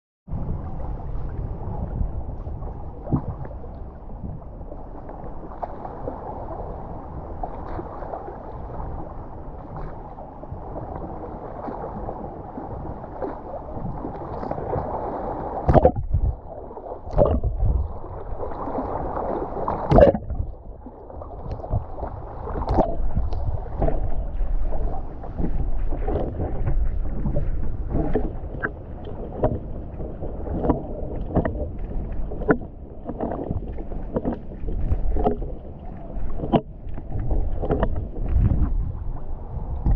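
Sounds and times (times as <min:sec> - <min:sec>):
muffled water sloshing and gurgling: 0:00.3 - 0:39.9.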